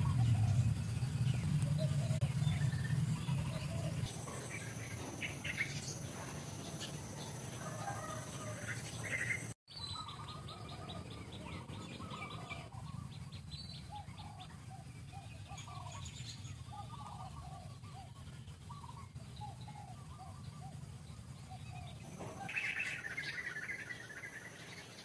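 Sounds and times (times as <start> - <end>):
bird trill: 0.0 - 25.0
low background hum: 0.0 - 25.0
small birds chirping: 0.0 - 25.0.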